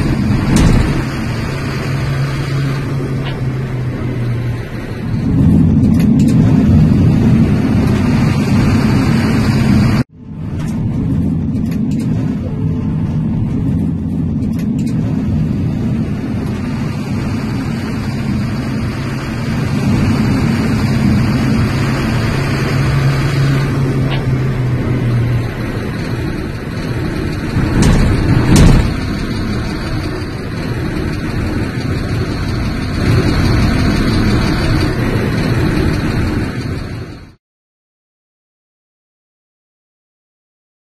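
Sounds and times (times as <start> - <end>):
rail vehicle running: 0.0 - 37.4
steady low hum: 0.0 - 37.4.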